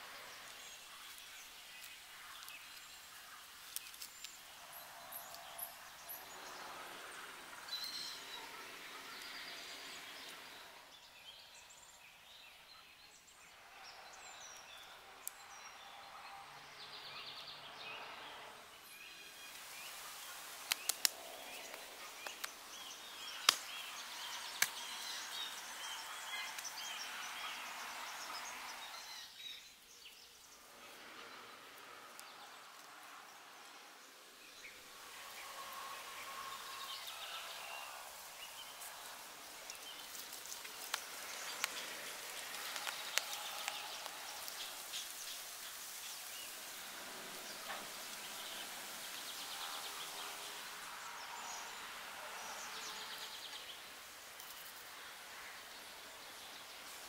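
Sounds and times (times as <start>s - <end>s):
birds chirping: 0.0s - 57.0s
steady forest hiss: 0.0s - 57.0s.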